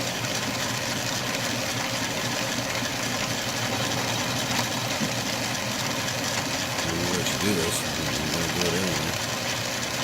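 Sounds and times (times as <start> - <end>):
metal lathe running: 0.0 - 10.0.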